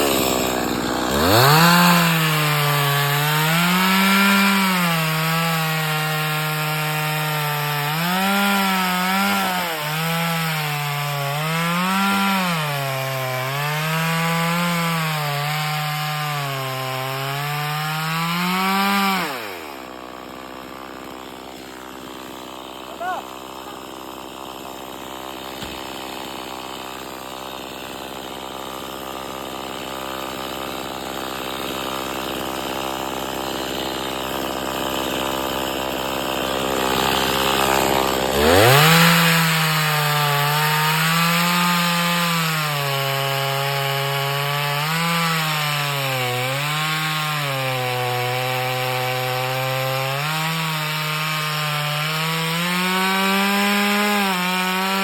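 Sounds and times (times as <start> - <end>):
chainsaw cutting wood: 0.0 - 55.0
chainsaw engine running: 0.0 - 55.0.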